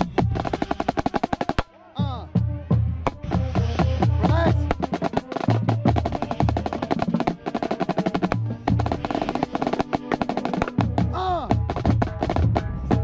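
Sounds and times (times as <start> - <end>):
marching snare drum strokes: 0.0 - 1.7, 3.0 - 13.0
brass chords: 0.0 - 13.0.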